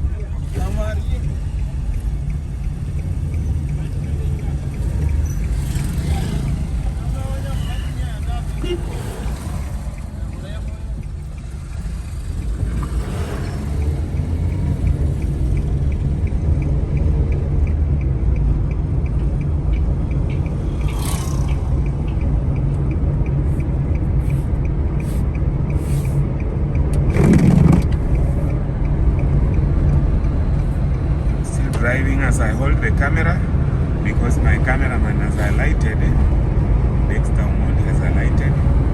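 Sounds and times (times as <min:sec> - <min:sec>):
car engine and tyre rumble: 0:00.0 - 0:38.9
faint even ticking: 0:00.0 - 0:38.9.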